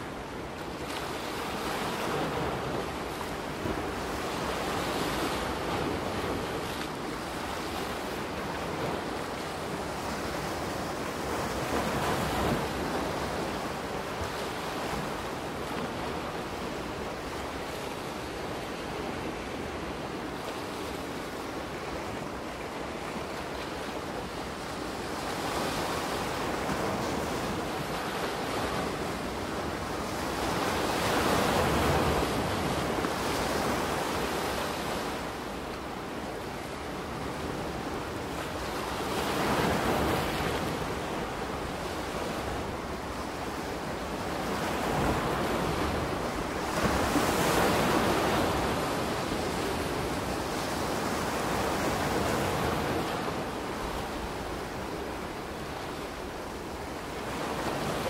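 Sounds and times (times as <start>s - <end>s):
ocean waves washing onto beach: 0.0s - 58.0s.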